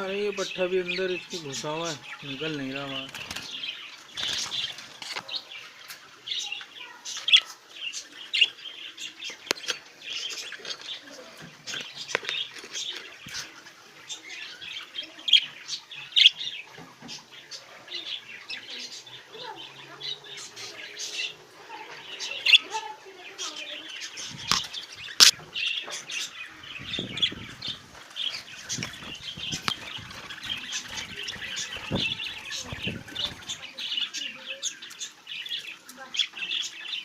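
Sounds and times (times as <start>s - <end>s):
budgerigars chirping and chattering: 0.0s - 37.0s.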